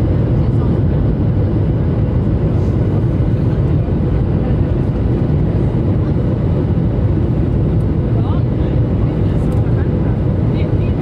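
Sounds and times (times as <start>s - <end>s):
airliner cabin noise: 0.0s - 11.0s.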